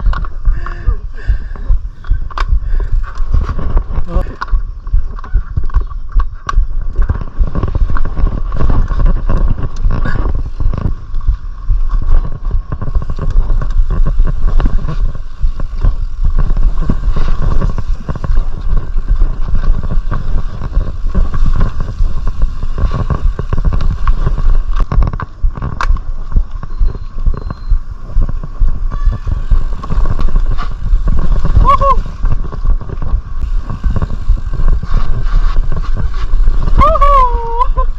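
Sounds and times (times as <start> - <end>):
bike rattles and knocks: 0.0 - 37.9
mountain bike rumbling on trail: 0.0 - 37.9.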